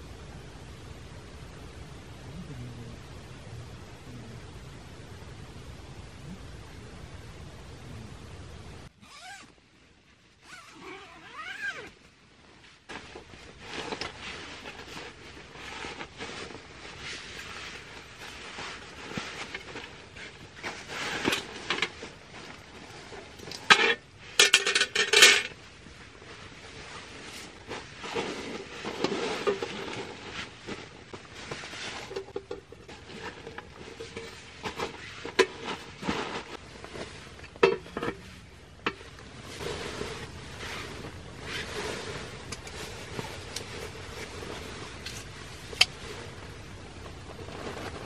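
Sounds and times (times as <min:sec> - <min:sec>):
handling noise: 0:08.5 - 0:48.0.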